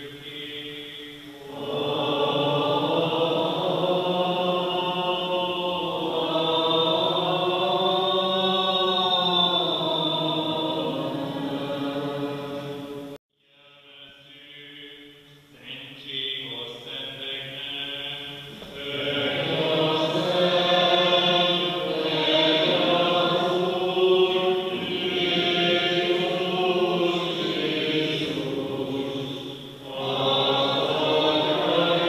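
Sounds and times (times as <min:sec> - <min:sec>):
liturgical chant: 0:00.0 - 0:32.0.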